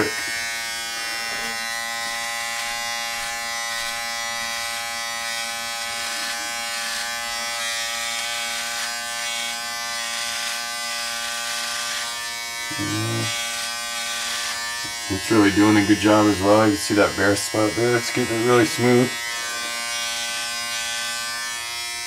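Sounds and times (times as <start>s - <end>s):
electric shaver buzzing: 0.0s - 22.0s.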